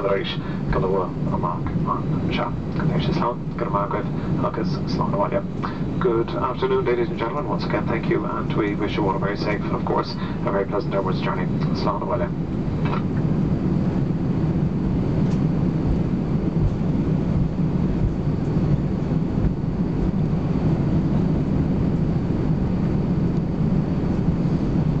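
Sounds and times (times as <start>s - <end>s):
aircraft cabin engine rumble: 0.0s - 25.0s
faint high whine: 0.0s - 25.0s.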